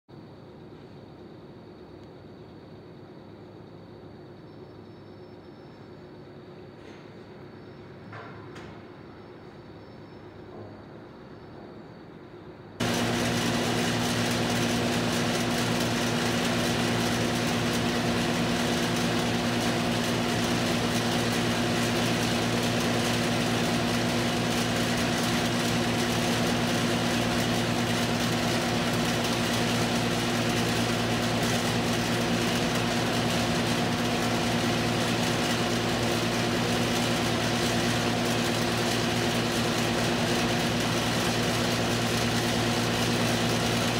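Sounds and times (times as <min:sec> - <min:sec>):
steady mechanical hum with hiss: 0:00.1 - 0:43.9.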